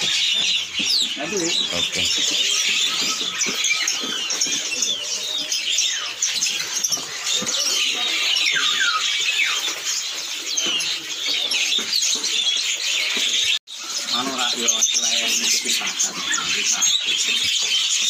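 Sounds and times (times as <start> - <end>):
songbirds chirping and twittering: 0.0 - 18.0.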